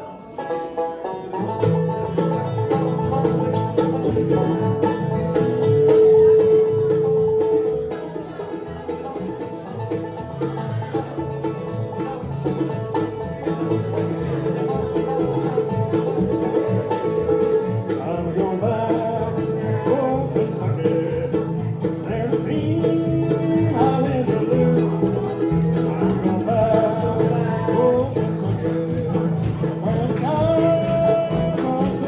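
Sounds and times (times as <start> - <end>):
bluegrass band playing: 0.0 - 32.0.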